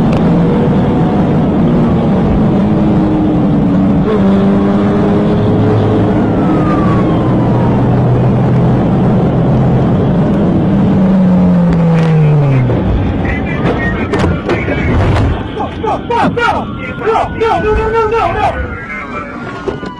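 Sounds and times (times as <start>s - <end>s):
car engine running hard: 0.0s - 18.9s
road noise: 0.0s - 19.9s.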